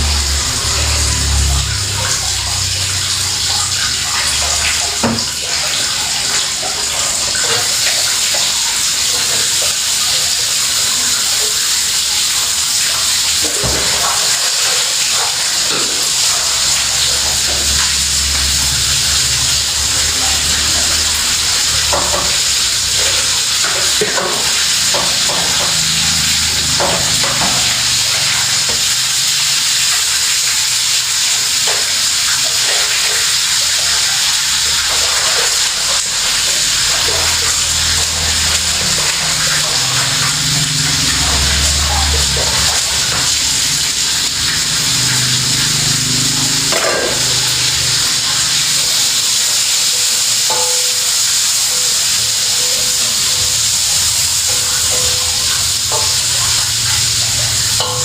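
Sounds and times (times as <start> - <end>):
water running from a tap: 0.0 - 58.0.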